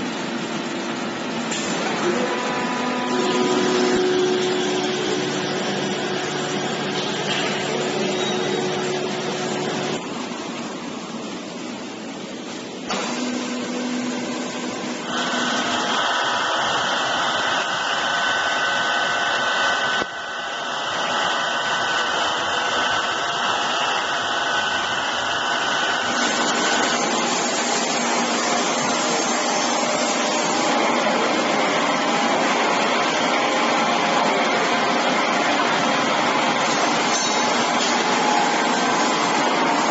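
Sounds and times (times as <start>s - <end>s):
ice machine whirring: 1.5s - 10.2s, 12.9s - 39.9s.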